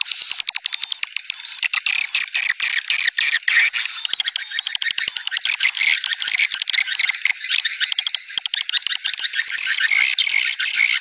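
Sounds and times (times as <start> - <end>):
swiftlets chattering and twittering: 0.0 - 11.0.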